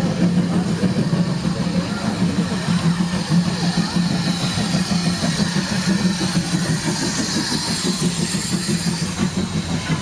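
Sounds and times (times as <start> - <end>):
steam locomotive exhaust chuffing: 0.0 - 10.0.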